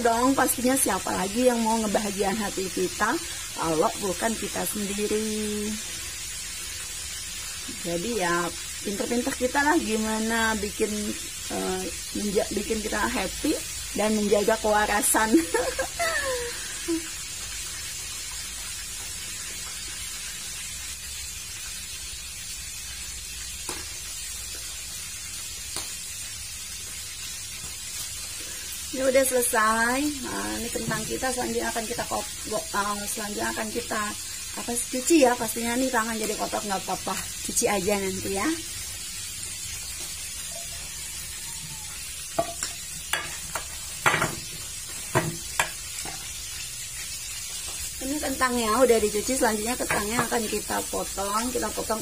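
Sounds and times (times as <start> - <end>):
fish sizzling in oil: 0.0 - 52.0.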